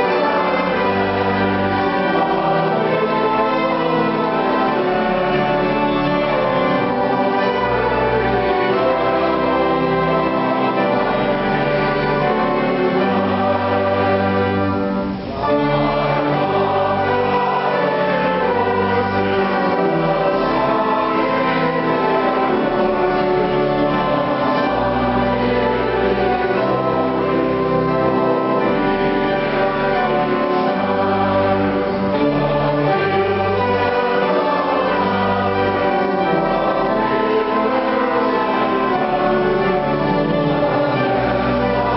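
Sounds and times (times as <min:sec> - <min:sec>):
choir singing: 0:00.0 - 0:41.9
sustained instrumental accompaniment: 0:00.0 - 0:41.9.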